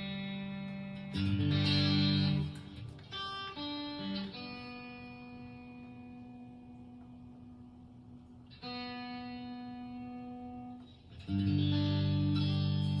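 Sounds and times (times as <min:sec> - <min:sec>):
electric guitar notes and chord: 0:00.0 - 0:13.0.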